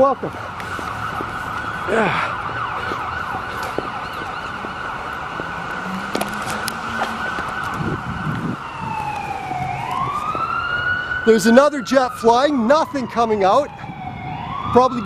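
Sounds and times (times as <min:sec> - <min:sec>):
emergency vehicle siren: 0:00.0 - 0:15.0.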